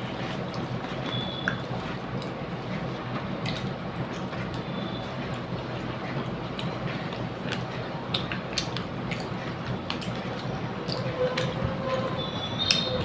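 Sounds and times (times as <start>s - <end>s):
fingers squishing wet rice: 0.0s - 11.6s
steady background noise: 0.0s - 13.0s.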